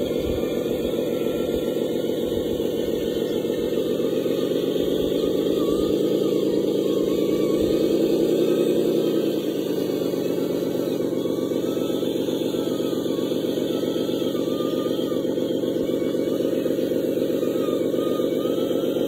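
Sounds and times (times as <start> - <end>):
toy vehicle motor drone: 0.0 - 19.0.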